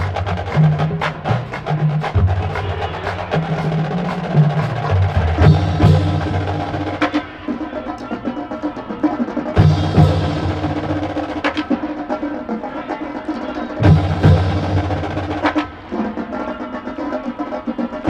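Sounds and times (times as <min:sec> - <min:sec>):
drumline playing a cadence: 0:00.0 - 0:18.0.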